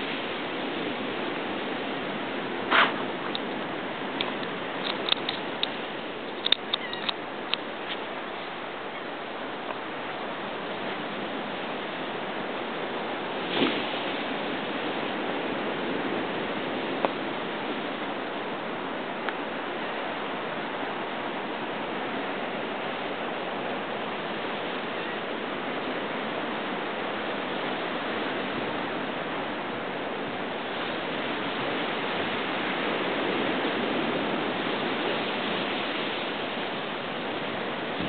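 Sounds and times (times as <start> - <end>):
surf washing over rocks: 0.0 - 38.0.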